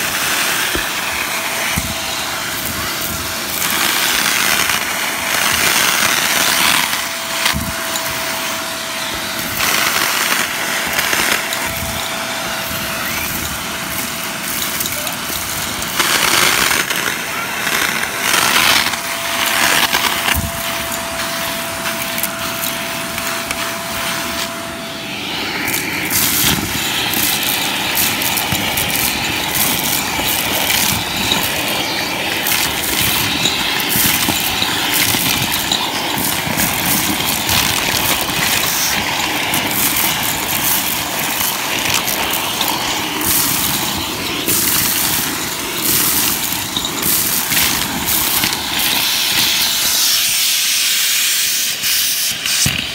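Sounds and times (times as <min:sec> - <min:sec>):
debris rattling up vacuum wand: 0:00.0 - 0:52.9
vacuum cleaner running: 0:00.0 - 0:52.9
steady whistling tone: 0:00.4 - 0:51.0.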